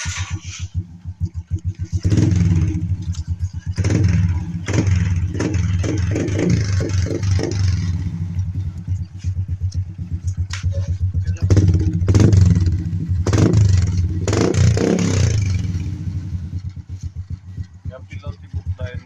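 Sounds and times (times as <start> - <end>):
exhaust popping: 0.0 - 19.0
motorcycle idling and revving: 0.0 - 19.0.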